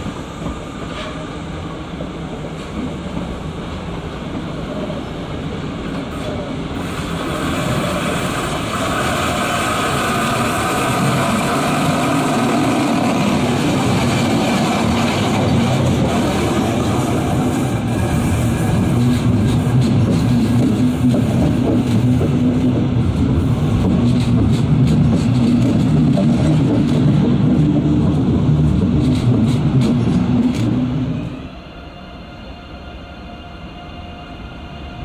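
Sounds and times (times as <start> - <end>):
train wheels rumbling on rails: 0.0 - 32.5.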